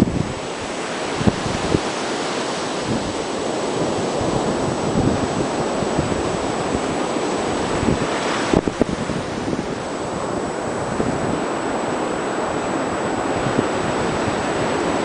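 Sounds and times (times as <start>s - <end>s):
sea surf: 0.0s - 15.0s
wind buffeting microphone: 0.0s - 15.0s.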